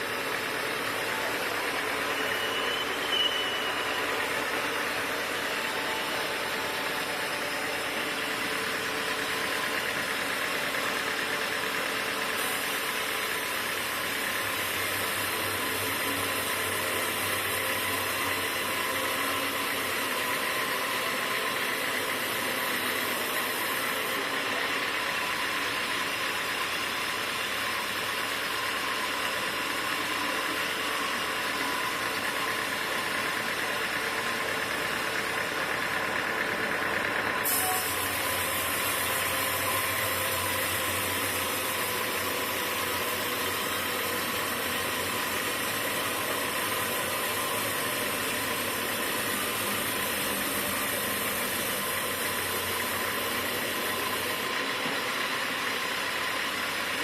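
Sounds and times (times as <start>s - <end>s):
high mechanical hiss: 0.0s - 54.6s
sawmill machinery running: 0.0s - 57.0s.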